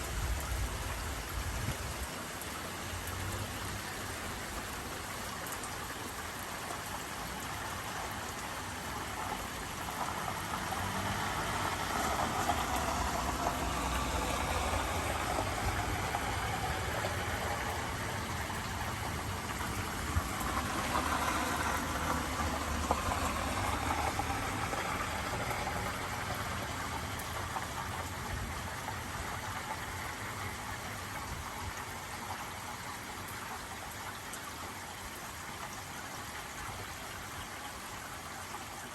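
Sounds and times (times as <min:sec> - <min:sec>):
rain hissing: 0:00.0 - 0:33.4.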